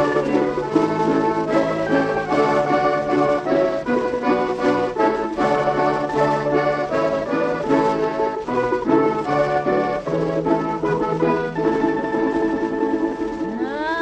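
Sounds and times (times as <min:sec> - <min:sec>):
accordion chords: 0:00.0 - 0:14.0
plucked string melody: 0:00.0 - 0:14.0.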